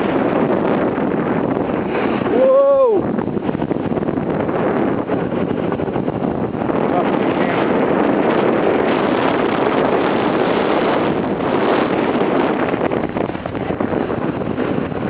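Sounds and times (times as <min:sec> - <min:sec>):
snowboard scraping over snow: 0:00.0 - 0:15.0
wind on microphone: 0:00.0 - 0:15.0.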